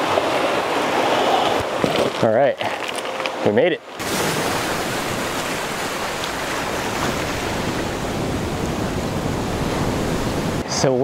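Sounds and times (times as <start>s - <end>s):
surf washing over rocks: 0.0s - 2.4s, 4.0s - 11.0s.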